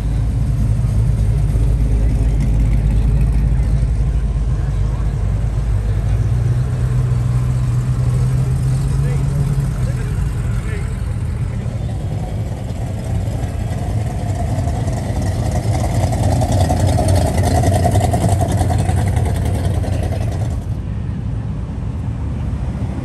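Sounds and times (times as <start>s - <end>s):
car exhaust rumble: 0.0s - 23.0s
car passing: 0.0s - 23.0s.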